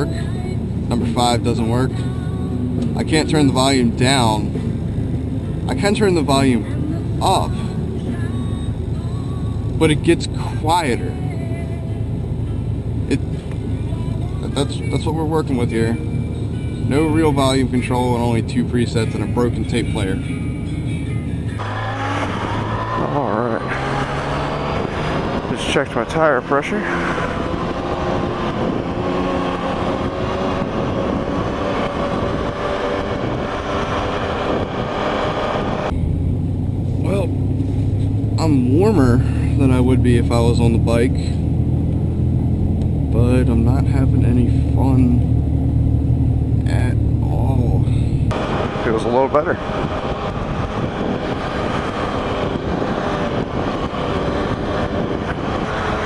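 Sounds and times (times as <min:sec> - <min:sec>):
pickup truck engine: 0:00.0 - 0:56.0
road noise: 0:00.0 - 0:56.0.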